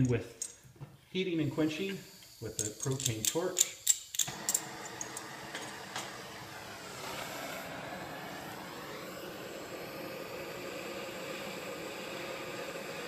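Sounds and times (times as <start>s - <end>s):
propane torch hissing: 1.2s - 13.0s
torch click: 2.0s - 13.0s.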